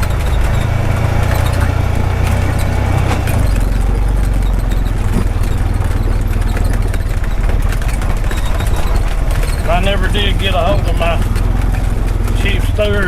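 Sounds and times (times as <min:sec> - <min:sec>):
engine running: 0:00.0 - 0:13.0
rattles and knocks: 0:00.0 - 0:13.0.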